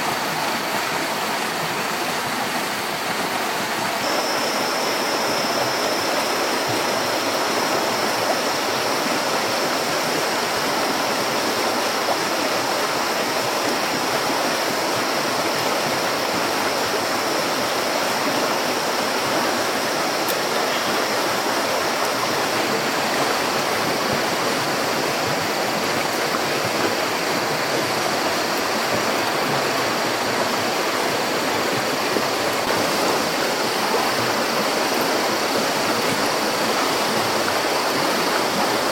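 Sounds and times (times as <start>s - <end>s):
rushing water: 0.0s - 38.9s
thin high whine: 1.8s - 38.9s.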